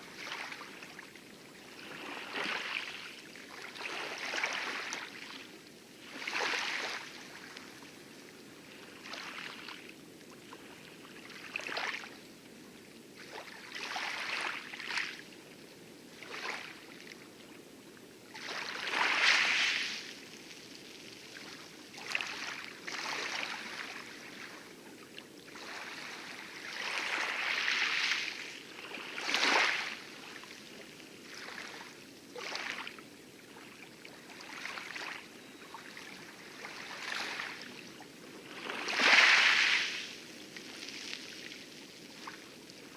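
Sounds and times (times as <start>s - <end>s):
waves lapping against coral: 0.0s - 42.9s.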